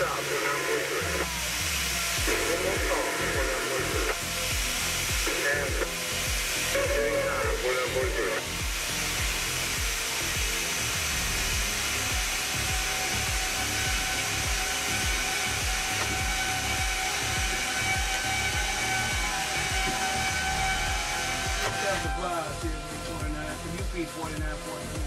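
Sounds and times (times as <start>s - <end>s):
diesel locomotive engine rumble: 0.0s - 25.0s
faint steady whine: 0.0s - 25.0s.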